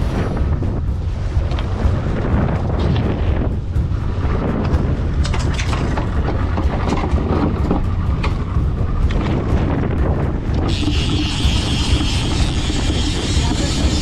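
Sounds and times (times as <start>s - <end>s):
heavy wind buffeting microphone: 0.0s - 14.0s.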